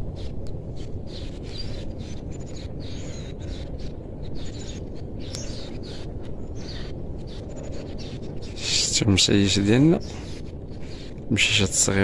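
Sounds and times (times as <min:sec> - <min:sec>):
birds chirping: 0:00.0 - 0:12.0
low outdoor rumble: 0:00.0 - 0:12.0.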